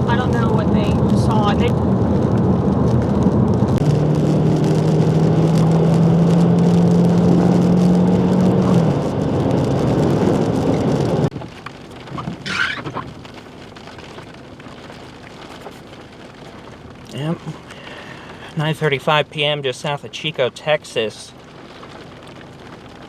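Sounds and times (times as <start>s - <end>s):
heavy rain on a vehicle: 0.0s - 23.0s.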